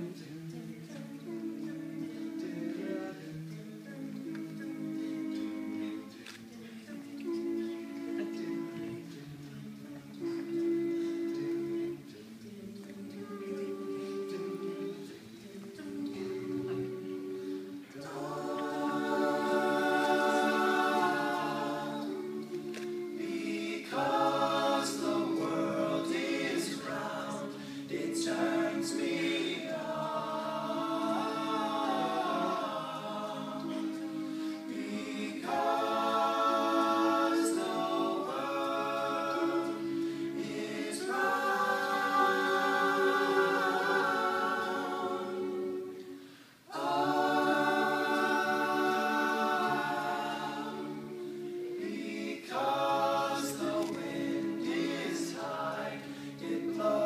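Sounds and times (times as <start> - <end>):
vocal group singing a cappella: 0.0 - 57.0.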